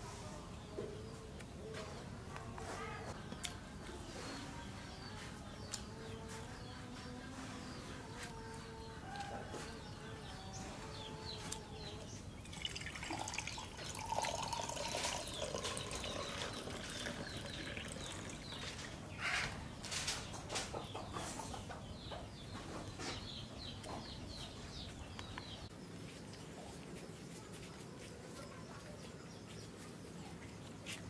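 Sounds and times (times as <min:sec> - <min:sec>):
birds chirping: 0:00.3 - 0:31.0.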